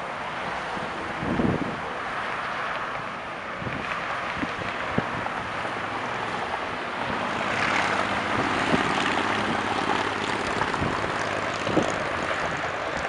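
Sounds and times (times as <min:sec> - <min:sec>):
distant jet engines rushing: 0:00.0 - 0:13.0
wind buffeting microphone: 0:01.0 - 0:02.0, 0:02.9 - 0:13.0.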